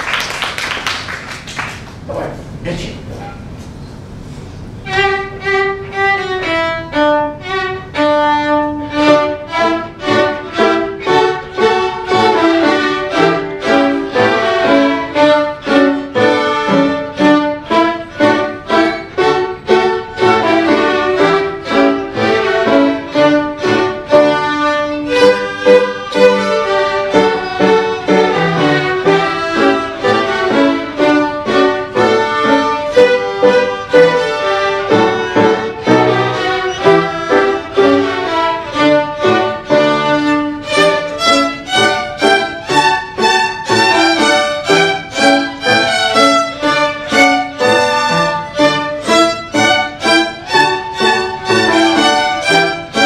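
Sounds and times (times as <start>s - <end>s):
violin ensemble playing: 4.6s - 53.0s.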